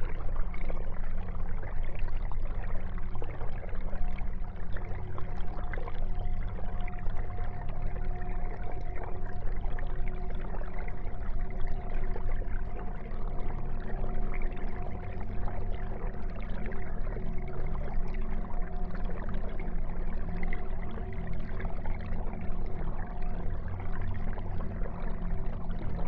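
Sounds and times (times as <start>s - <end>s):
aquarium water trickling: 0.0s - 26.0s
steady hum: 0.0s - 26.0s.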